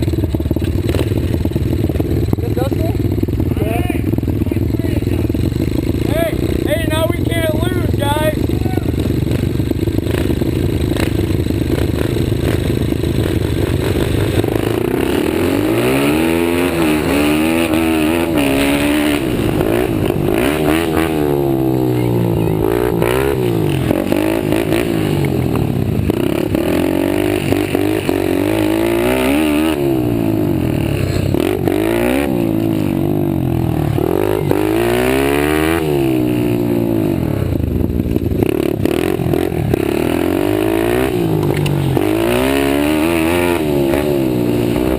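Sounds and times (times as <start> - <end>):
pit bike engines revving: 0.0 - 44.9.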